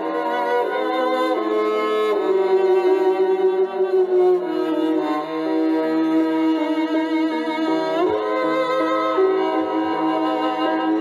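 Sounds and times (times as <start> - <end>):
bowed strings playing slowly: 0.0 - 11.0.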